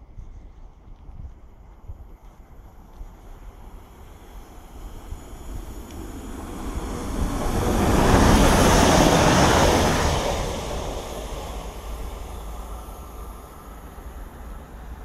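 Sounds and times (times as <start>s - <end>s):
train engine noise: 0.0s - 15.0s
train wheels rushing on rails: 0.0s - 15.0s.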